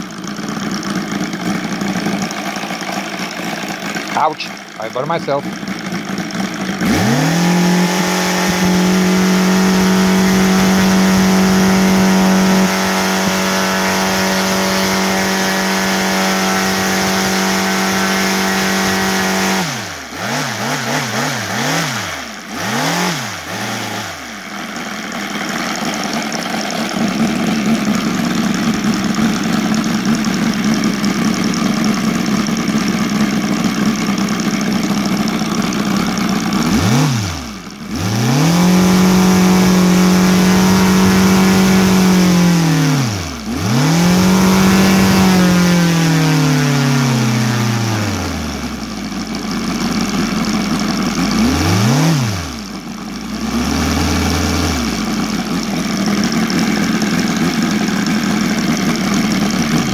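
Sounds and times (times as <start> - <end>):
model aircraft engine revving: 0.0 - 59.9.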